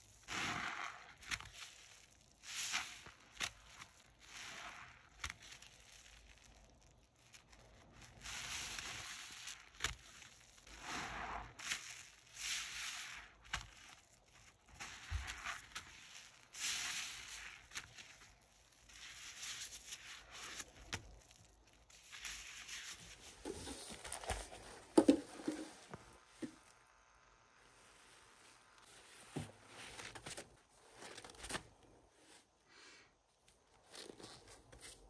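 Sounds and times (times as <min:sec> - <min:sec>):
sponge squishing in foam: 0:00.0 - 0:30.2.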